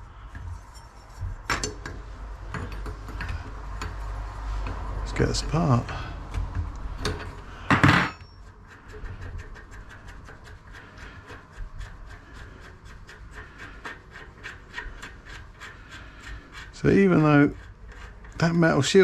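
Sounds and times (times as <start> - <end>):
bicycle hub clicking and scraping: 0.0 - 19.0.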